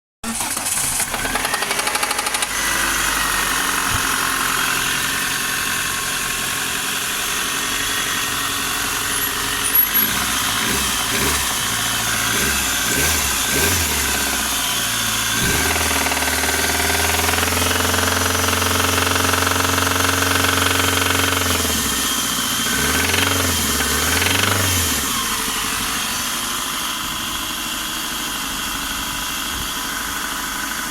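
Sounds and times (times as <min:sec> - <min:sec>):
car engine knocking and revving: 0:01.0 - 0:28.3.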